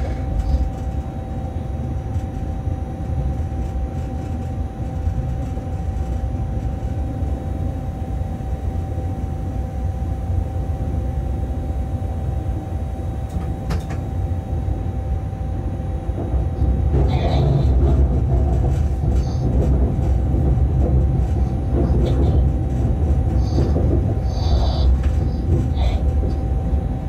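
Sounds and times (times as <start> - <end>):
constant hum: 0.0 - 27.0
locomotive cab low rumble: 0.0 - 27.0.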